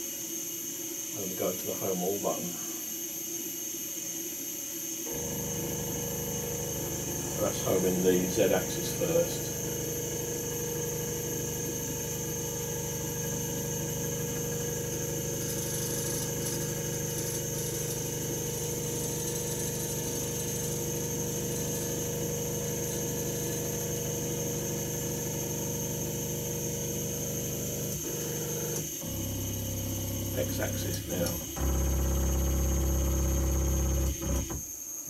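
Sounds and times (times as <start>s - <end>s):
stepper motors whining: 5.1s - 34.7s.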